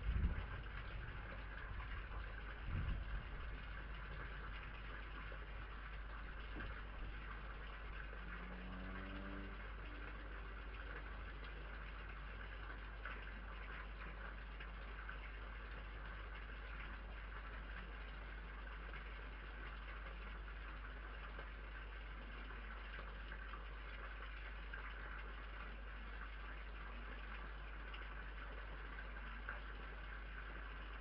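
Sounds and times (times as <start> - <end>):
constant low hum: 0.0 - 31.0.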